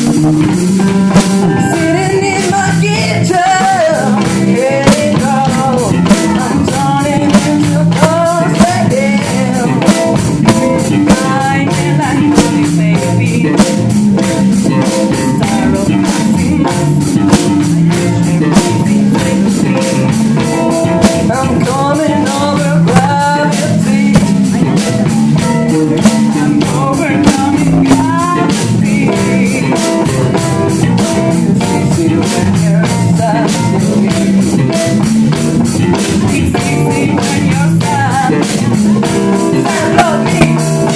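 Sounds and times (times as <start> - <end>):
bass guitar: 0.0 - 40.9
drum kit beat: 0.0 - 40.9
electric guitar: 0.0 - 40.9
person singing: 0.0 - 40.9.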